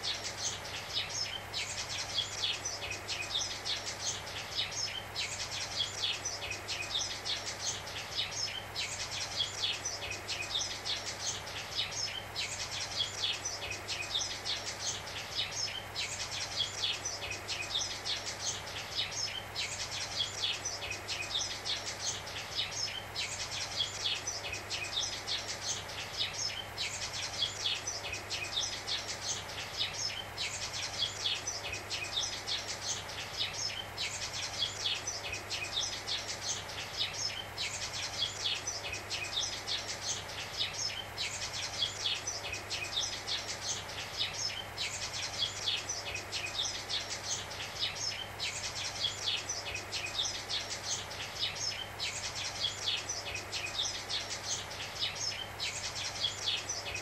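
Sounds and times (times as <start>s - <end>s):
sparrows chirping: 0.0s - 57.0s
television static hiss: 0.0s - 57.0s.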